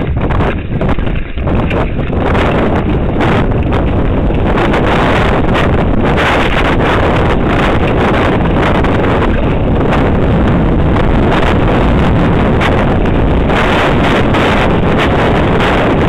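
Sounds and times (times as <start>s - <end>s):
bike tyres rumbling on rough ground: 0.0s - 16.0s
wind buffeting microphone: 0.0s - 16.0s.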